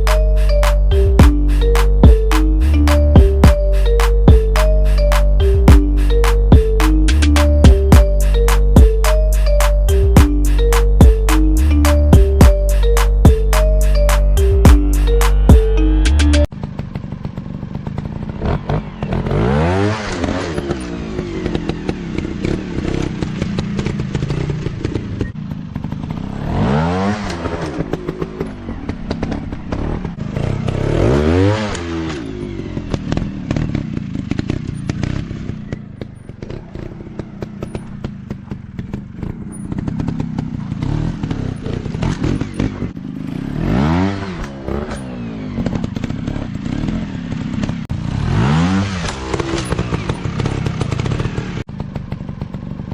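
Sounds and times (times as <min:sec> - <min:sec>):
dirt bike engines revving: 0:00.0 - 0:51.6.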